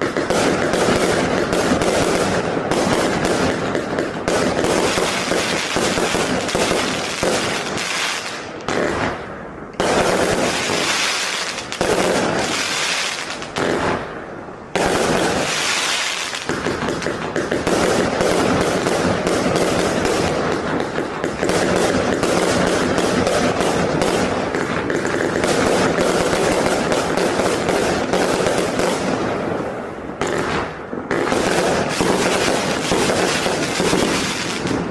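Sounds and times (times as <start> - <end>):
firework cake volleys with crackle: 0.0 - 34.9.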